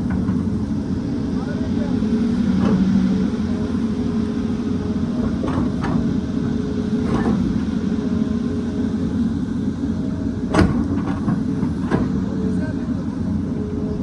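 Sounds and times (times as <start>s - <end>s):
excavator diesel engine: 0.0s - 14.0s.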